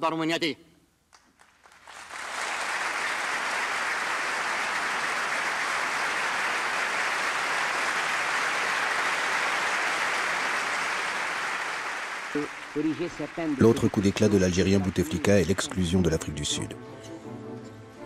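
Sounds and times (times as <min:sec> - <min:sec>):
large crowd applauding: 0:01.2 - 0:16.4.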